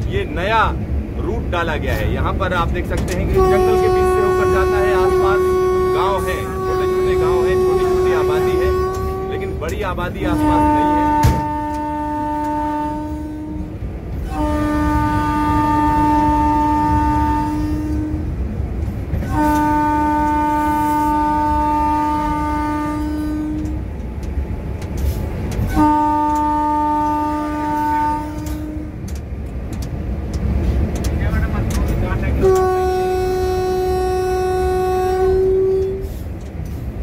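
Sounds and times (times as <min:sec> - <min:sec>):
train running rumble: 0:00.0 - 0:37.0
locomotive horn blasts: 0:02.9 - 0:18.4, 0:19.2 - 0:24.0, 0:25.0 - 0:29.2, 0:31.7 - 0:36.8.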